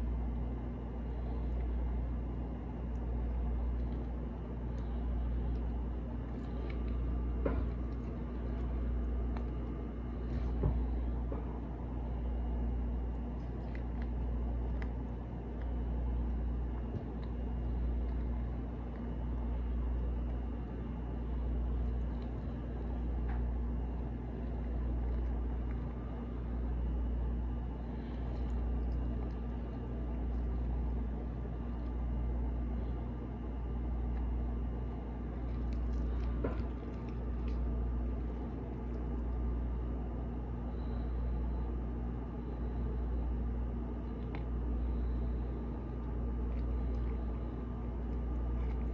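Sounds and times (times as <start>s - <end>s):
low mechanical rumbling hum: 0.0s - 48.9s.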